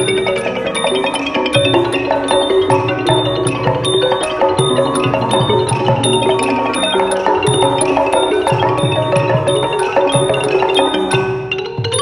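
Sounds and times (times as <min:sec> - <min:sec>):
mallet percussion melody: 0:00.0 - 0:12.0
small ringing cymbals: 0:00.0 - 0:12.0.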